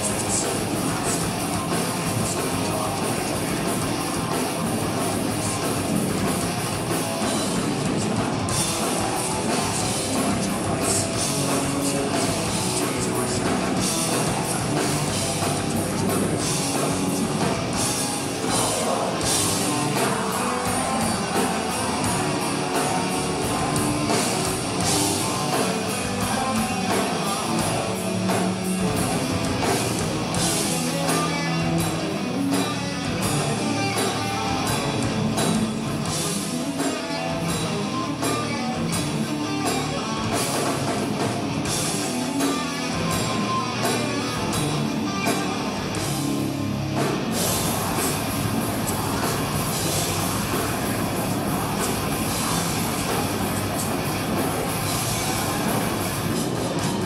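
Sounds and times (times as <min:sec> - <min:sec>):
metal band playing live: 0:00.0 - 0:57.0.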